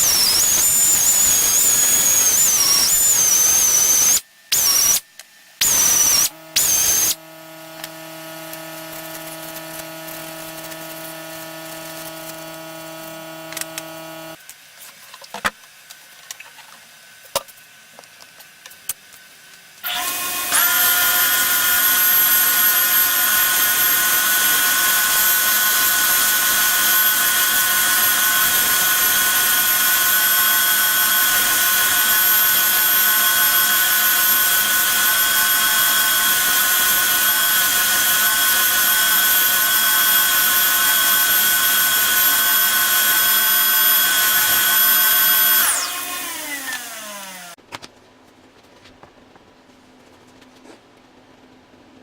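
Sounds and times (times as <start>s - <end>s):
power tool whining: 0.0s - 14.4s, 19.8s - 47.6s.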